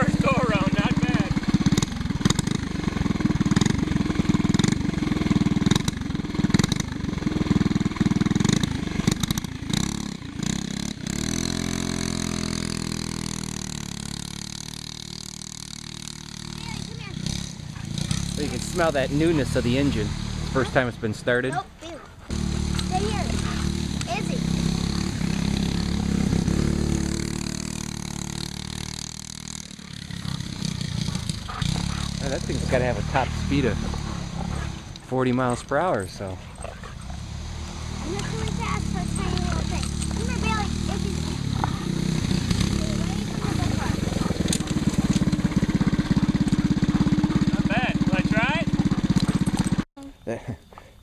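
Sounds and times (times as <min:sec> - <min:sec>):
go-kart engine running and idling: 0:00.0 - 0:49.9.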